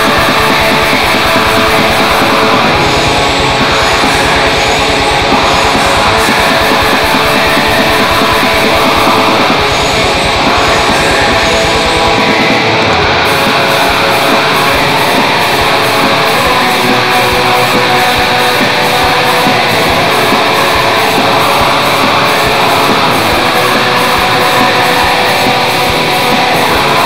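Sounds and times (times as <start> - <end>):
heavy metal song: 0.0 - 27.0.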